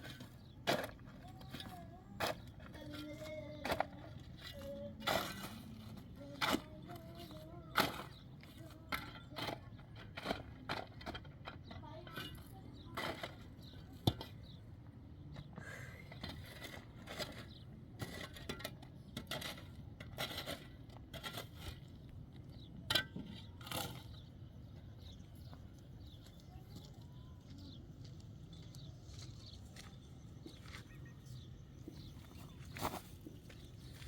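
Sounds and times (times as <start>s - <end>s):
low steady background noise: 0.0s - 34.0s.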